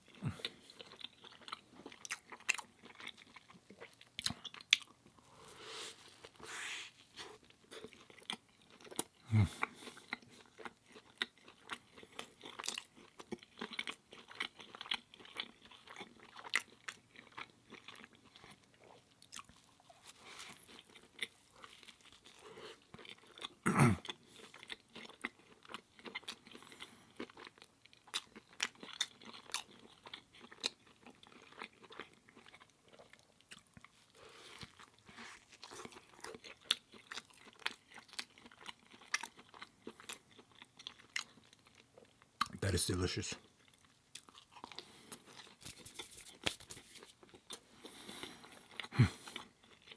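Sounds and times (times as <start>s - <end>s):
chewing with crunching clicks: 0.0s - 5.2s, 7.3s - 49.9s.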